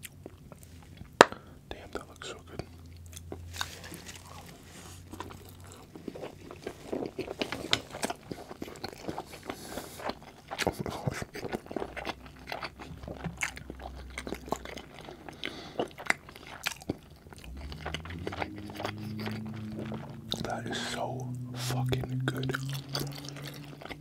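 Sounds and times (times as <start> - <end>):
close chewing mouth sounds: 0.0 - 24.0.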